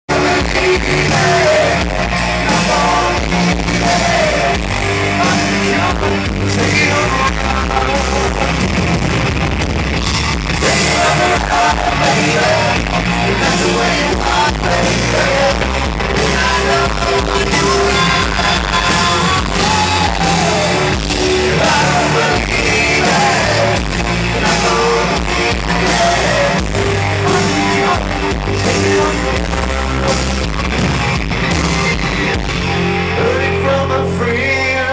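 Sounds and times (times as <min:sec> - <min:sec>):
bass guitar: 0:00.0 - 0:34.9
distorted electric guitar: 0:00.0 - 0:34.9
drums: 0:00.0 - 0:34.9
person singing: 0:00.1 - 0:08.8, 0:10.6 - 0:30.4, 0:32.9 - 0:34.9.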